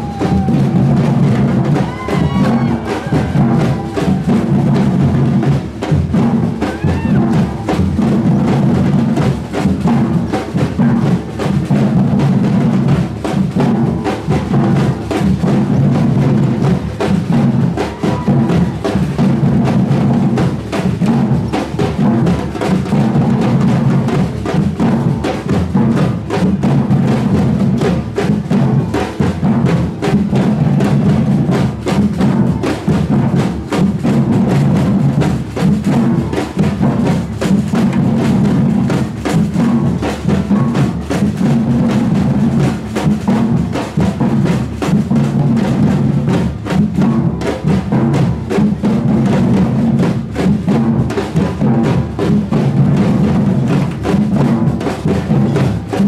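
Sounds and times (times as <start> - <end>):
samba drum band: 0.0 - 56.0.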